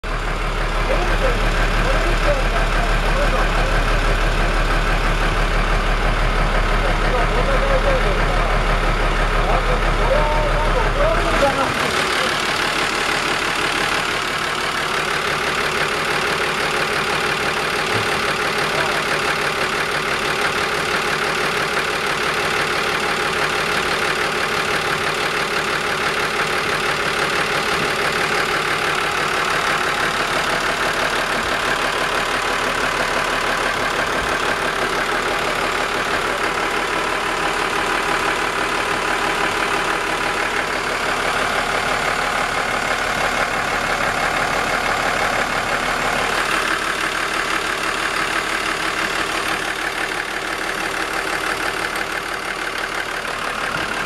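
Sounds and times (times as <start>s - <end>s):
boat diesel engine idling: 0.0s - 54.0s.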